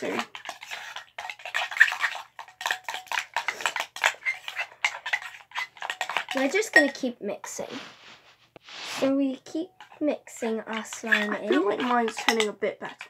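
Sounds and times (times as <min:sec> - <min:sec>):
spoons scraping and clinking bowls: 0:00.0 - 0:13.0.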